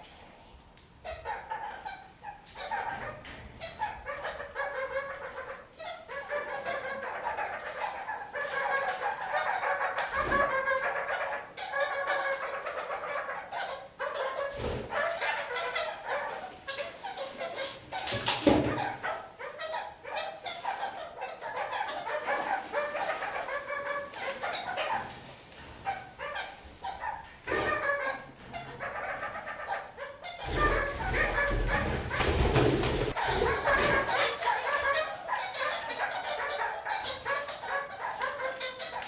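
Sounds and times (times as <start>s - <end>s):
parakeets chattering: 0.0s - 39.0s.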